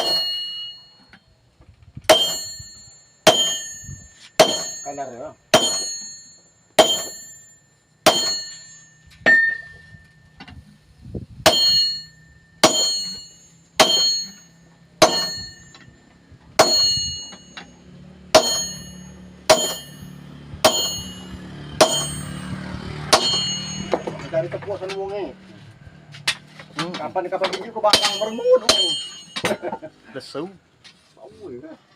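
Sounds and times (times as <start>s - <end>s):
hammer clanging on anvil: 0.0s - 1.2s, 2.1s - 10.5s, 11.5s - 25.0s, 26.2s - 29.8s.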